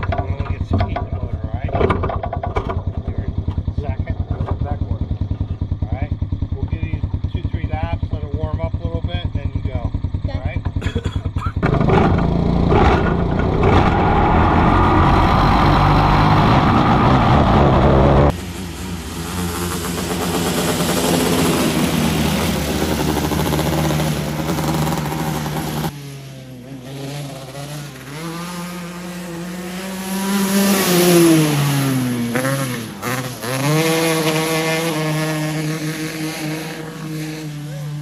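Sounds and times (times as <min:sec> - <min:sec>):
race car engine: 0:00.0 - 0:38.0.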